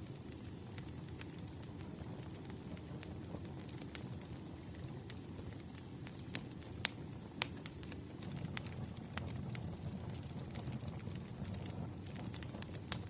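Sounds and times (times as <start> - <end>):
firewood crackling and popping: 0.0 - 13.0
rumble of flames: 0.0 - 13.0.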